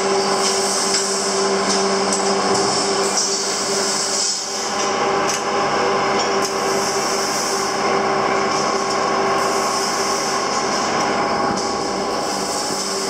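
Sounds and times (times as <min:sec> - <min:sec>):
machine running with hum: 0:00.0 - 0:13.0.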